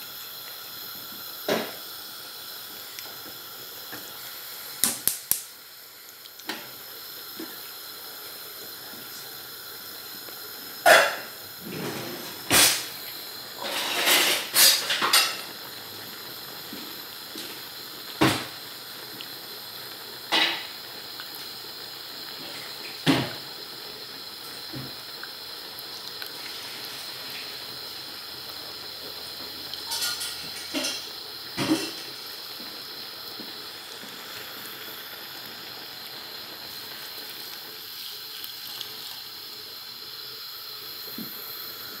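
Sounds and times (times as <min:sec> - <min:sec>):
pot boiling with bubbling hiss: 0:00.0 - 0:42.0.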